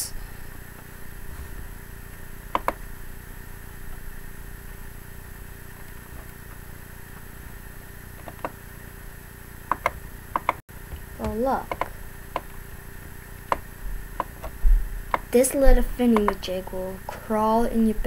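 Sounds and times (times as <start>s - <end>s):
room and computer hum: 0.0s - 18.0s.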